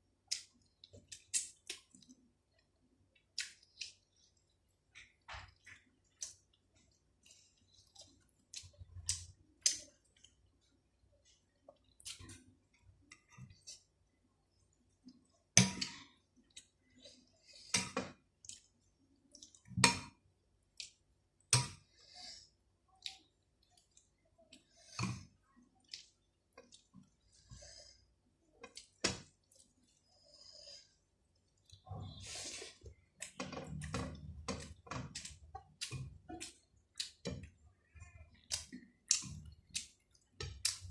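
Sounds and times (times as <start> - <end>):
mouth chewing food wetly: 0.1 - 40.9.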